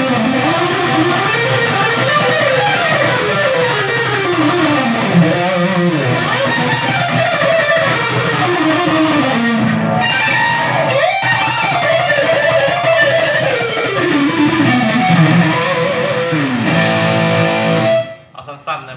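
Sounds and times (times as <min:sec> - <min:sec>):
electric guitar fast runs: 0:00.0 - 0:18.1.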